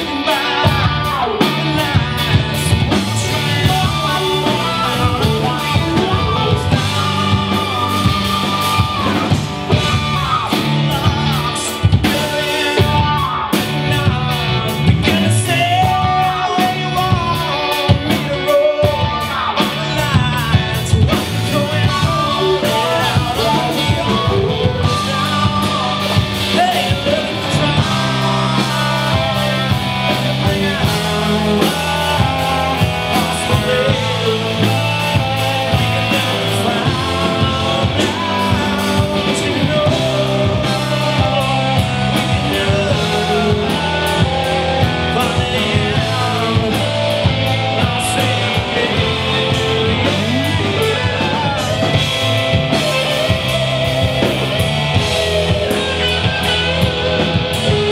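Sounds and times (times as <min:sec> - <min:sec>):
bass guitar: 0:00.0 - 0:57.9
drum kit: 0:00.0 - 0:57.9
electric guitars: 0:00.0 - 0:57.9.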